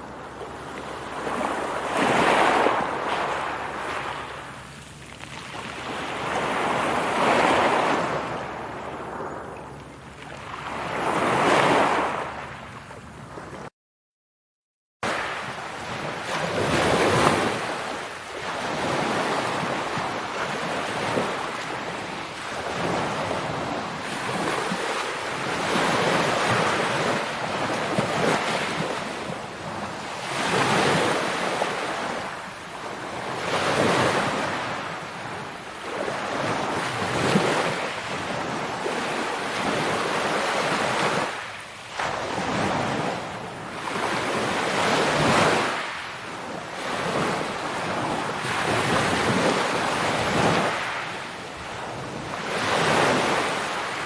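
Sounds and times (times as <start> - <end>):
ocean waves breaking on shore: 0.0 - 13.7, 15.0 - 54.0.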